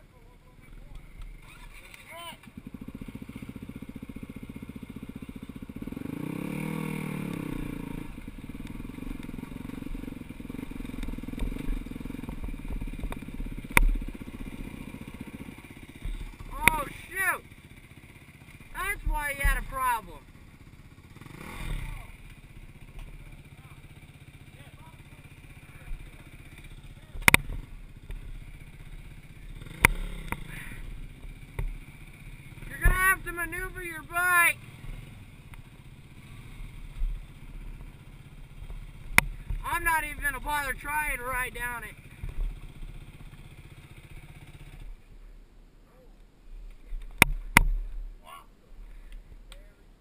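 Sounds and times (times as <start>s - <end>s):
dirt bike engine revving: 0.0s - 45.1s.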